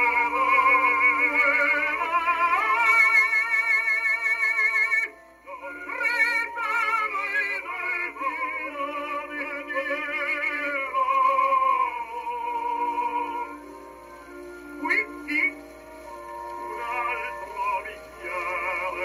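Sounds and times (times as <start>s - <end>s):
old operatic duet with orchestra: 0.0s - 19.0s.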